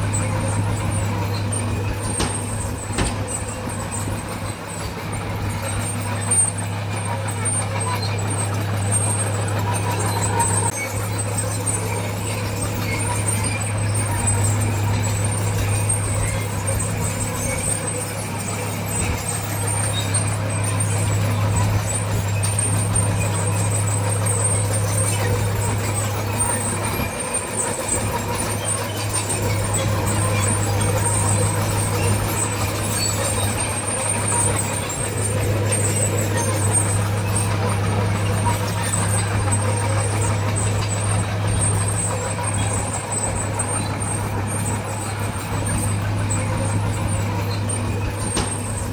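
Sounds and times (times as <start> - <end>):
heavy diesel engine droning: 0.0 - 48.9.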